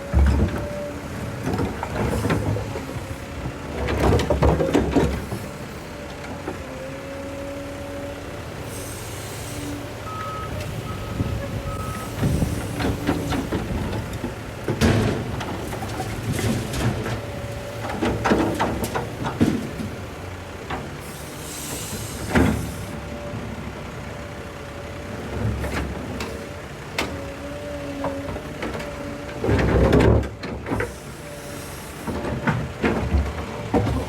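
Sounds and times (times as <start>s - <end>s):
excavator engine running: 0.0s - 34.0s.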